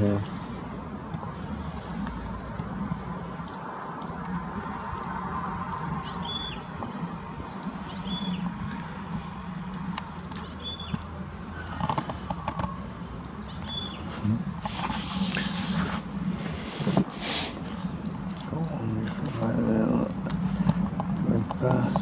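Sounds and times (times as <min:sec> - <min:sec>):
distant engine rumble: 0:00.0 - 0:22.0
small birds chirping: 0:00.0 - 0:22.0.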